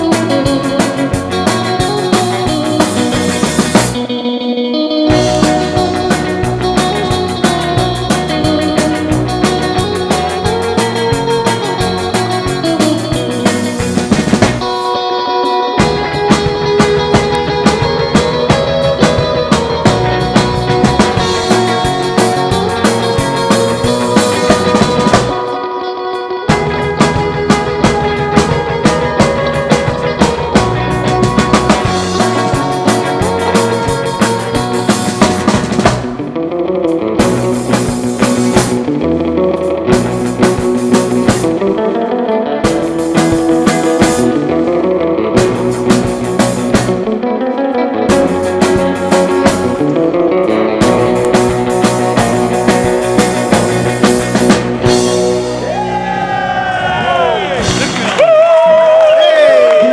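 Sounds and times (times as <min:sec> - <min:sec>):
drum kit: 0:00.0 - 0:04.5, 0:05.1 - 0:59.1
electric guitar: 0:00.0 - 0:59.9
rock band playing: 0:00.0 - 0:59.9.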